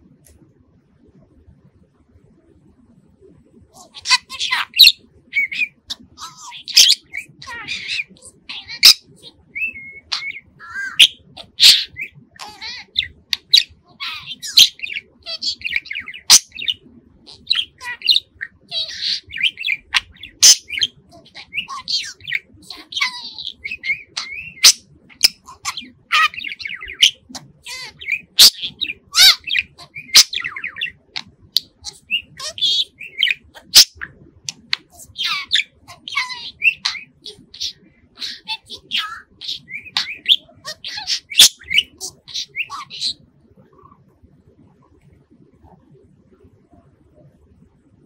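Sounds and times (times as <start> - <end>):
budgerigar warbling: 3.8 - 43.2.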